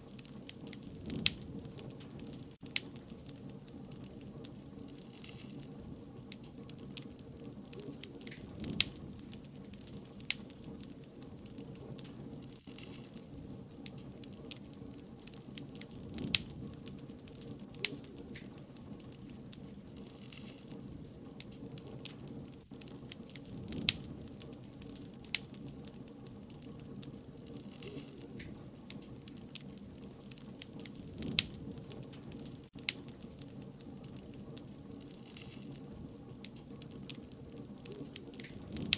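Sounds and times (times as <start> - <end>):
bonfire crackling: 0.0 - 38.9.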